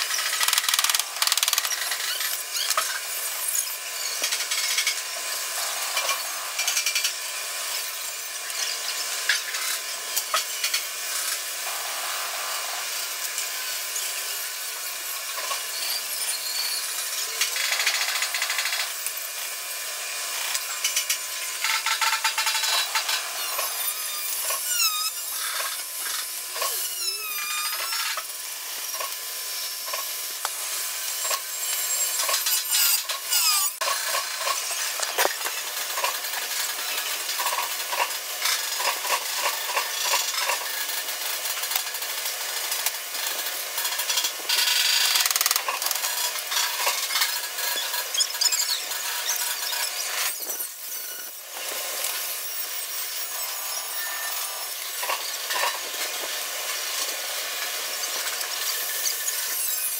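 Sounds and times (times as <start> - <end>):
power tool whirring and grinding: 0.0 - 59.9.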